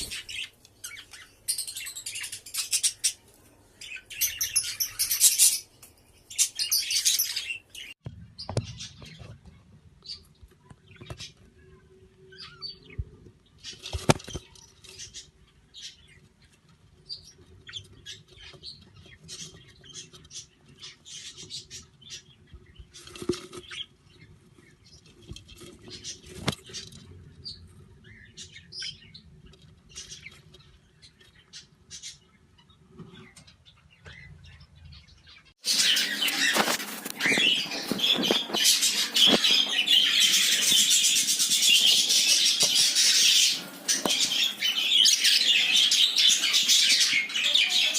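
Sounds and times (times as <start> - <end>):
budgies chirping: 0.0 - 8.0, 10.1 - 47.9
many budgies chattering: 0.0 - 47.9.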